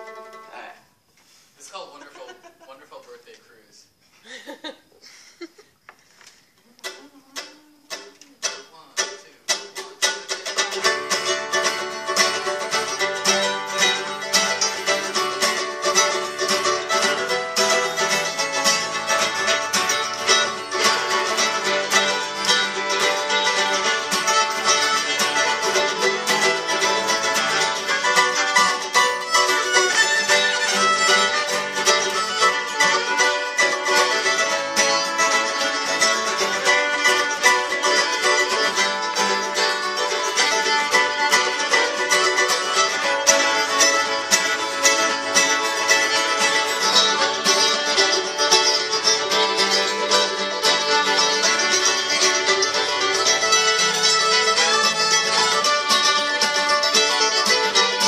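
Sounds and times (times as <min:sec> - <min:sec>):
acoustic string band playing: 0:00.0 - 0:03.1, 0:06.8 - 0:58.0
picked guitar notes: 0:06.8 - 0:58.0.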